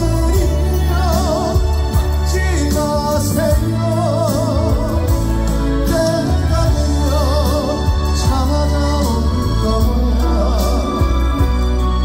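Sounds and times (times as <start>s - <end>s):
backing band playing: 0.0s - 12.0s
man singing live: 0.0s - 12.0s.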